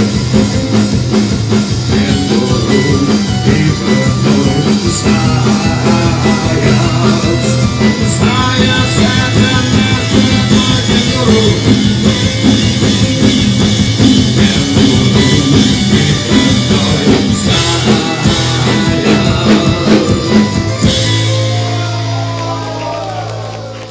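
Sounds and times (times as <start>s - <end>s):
drum kit: 0.0s - 23.9s
rock band playing live: 0.0s - 23.9s.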